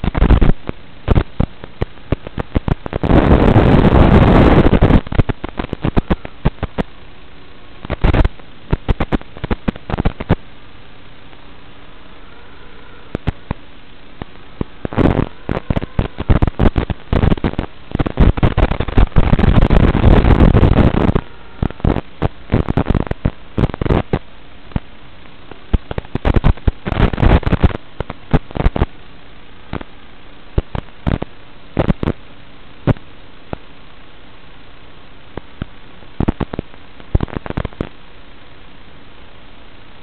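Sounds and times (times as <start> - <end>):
radio static hissing and crackling: 0.0 - 40.0.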